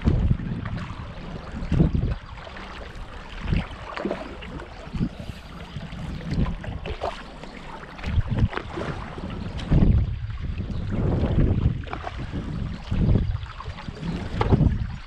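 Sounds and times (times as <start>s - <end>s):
paddle strokes through water: 0.0s - 15.0s
water splashes: 0.0s - 15.0s
wind rumble on microphone: 0.0s - 15.0s.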